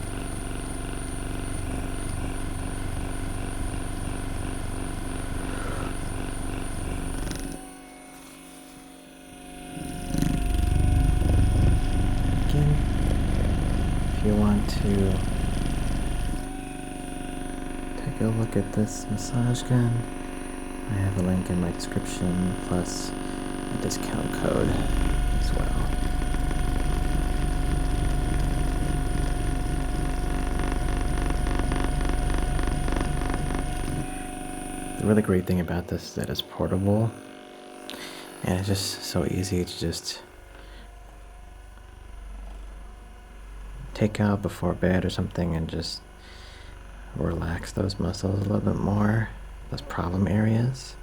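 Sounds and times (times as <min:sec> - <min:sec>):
massage gun motorised buzz: 0:00.0 - 0:51.0.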